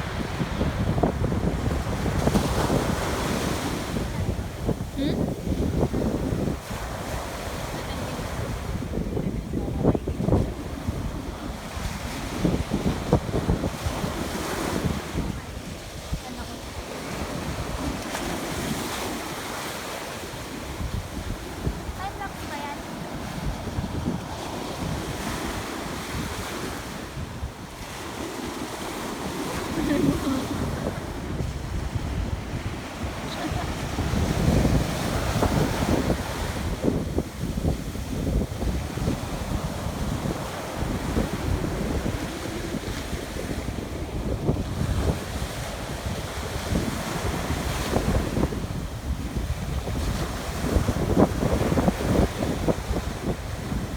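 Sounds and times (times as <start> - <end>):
ocean waves washing onto beach: 0.0 - 53.9
wind buffeting microphone: 0.0 - 53.9.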